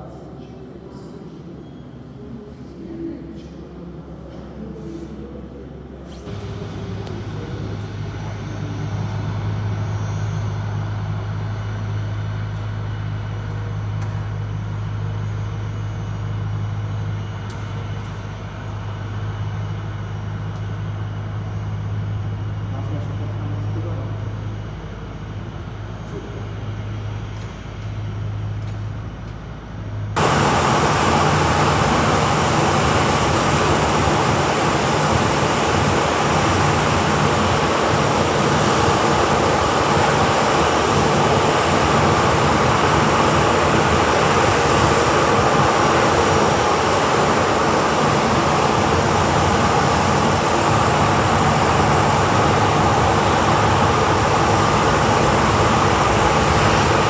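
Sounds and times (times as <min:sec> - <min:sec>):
low hum: 0:05.2 - 0:57.0
jet engines running loud: 0:06.1 - 0:57.0.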